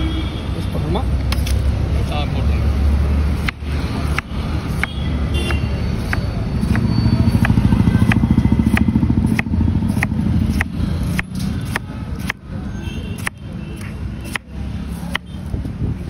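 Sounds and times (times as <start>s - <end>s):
vehicle engine: 0.0s - 16.0s.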